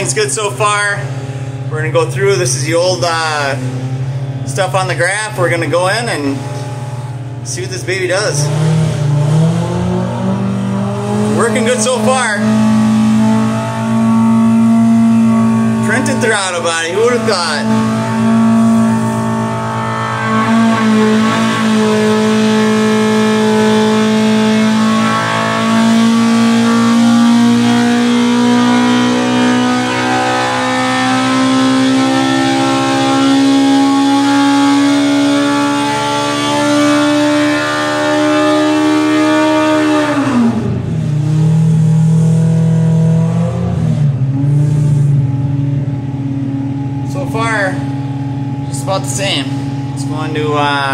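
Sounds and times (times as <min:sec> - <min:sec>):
engine running loud under load: 0:00.0 - 0:50.9.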